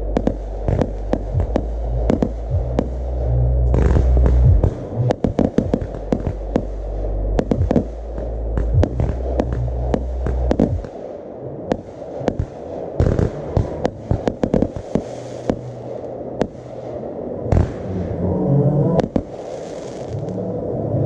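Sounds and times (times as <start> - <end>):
fireworks bangs and crackles: 0.0 - 3.0, 3.7 - 18.0, 19.0 - 20.4.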